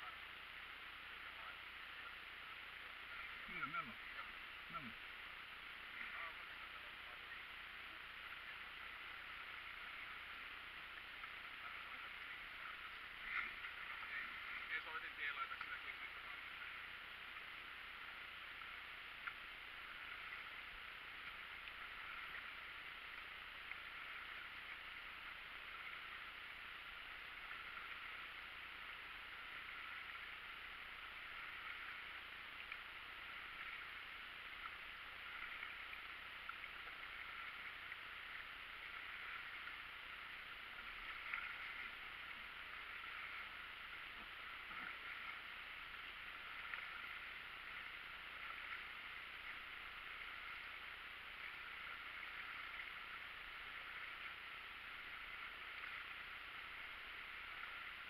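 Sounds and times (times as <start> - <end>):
water gurgling and lapping: 1.2 - 58.0.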